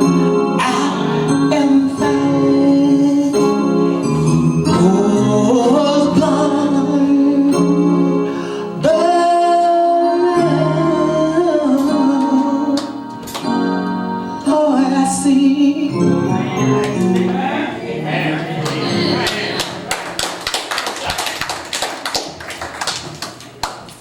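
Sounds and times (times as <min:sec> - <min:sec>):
person singing long notes: 0:00.0 - 0:19.7
slow instrumental accompaniment: 0:00.0 - 0:20.5.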